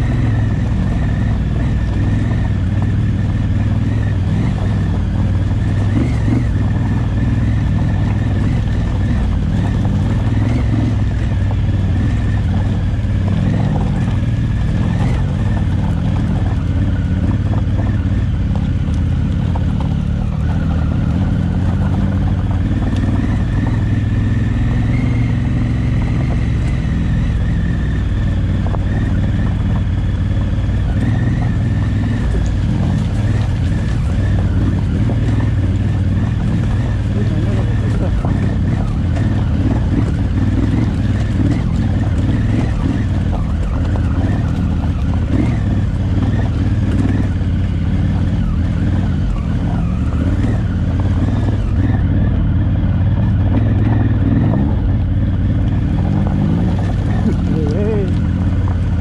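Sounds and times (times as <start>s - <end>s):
motorcycle engine rumble: 0.0s - 59.0s.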